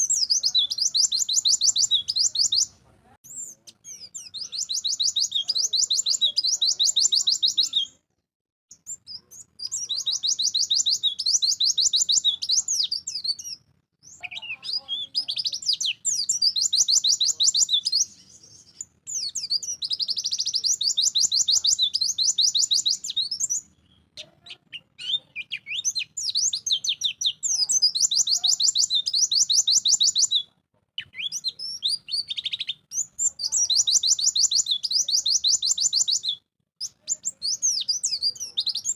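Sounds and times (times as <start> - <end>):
bird singing high trills: 0.0 - 2.7, 3.3 - 8.0, 8.7 - 24.1, 24.7 - 38.9.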